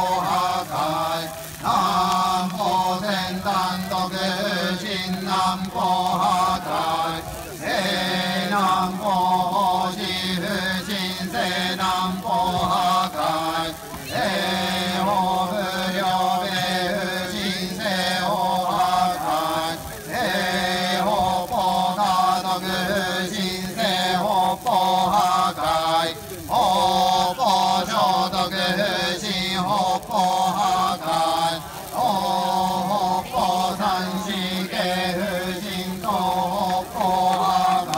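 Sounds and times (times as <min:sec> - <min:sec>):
people chanting in unison: 0:00.0 - 0:37.9.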